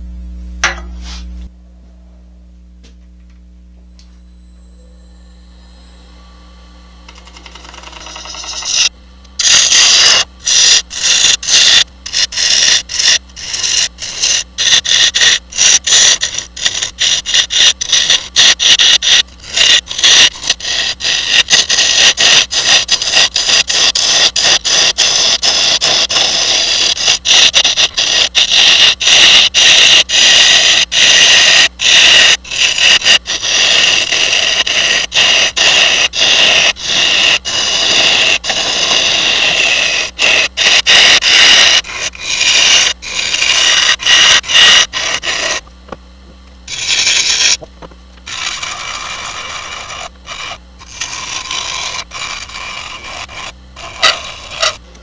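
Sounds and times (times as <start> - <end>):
lathe tool scraping wood: 7.1 - 45.7, 46.7 - 55.0.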